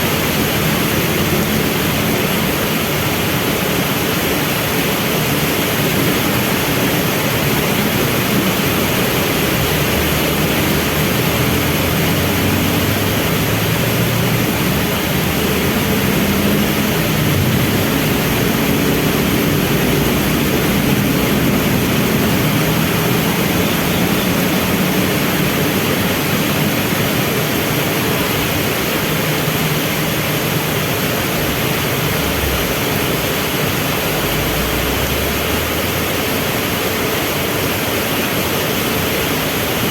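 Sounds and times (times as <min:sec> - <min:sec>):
heavy rain falling: 0:00.0 - 0:39.9
vehicle engines running: 0:00.0 - 0:39.9.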